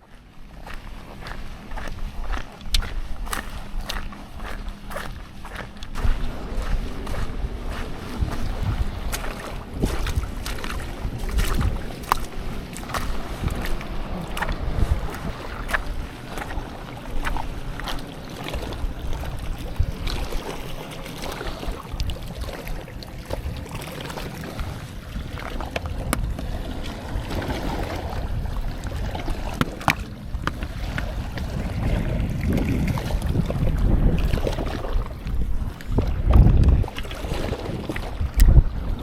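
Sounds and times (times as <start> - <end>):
wind rumbling on microphone: 0.0 - 39.0
surf washing on beach: 3.0 - 39.0.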